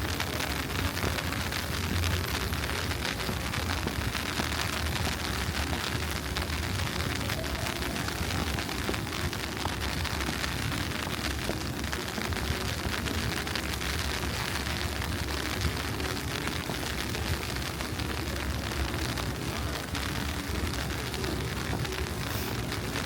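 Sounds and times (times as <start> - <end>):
continuous street hiss: 0.0 - 23.0.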